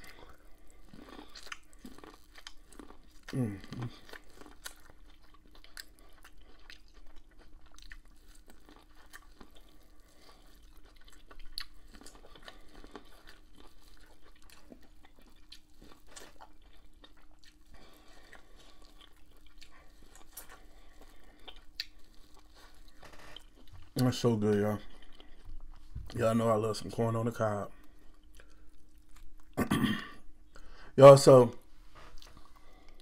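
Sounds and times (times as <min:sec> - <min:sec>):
chewing corn on the cob: 0:00.0 - 0:29.6
faint steady hum: 0:00.0 - 0:33.0.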